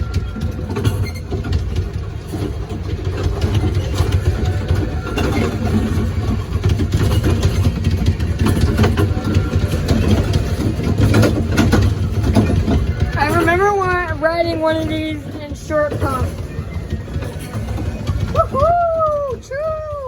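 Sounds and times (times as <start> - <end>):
rattles and clicks of cars: 0.0 - 20.0
ride-on train rumbling: 0.0 - 20.0.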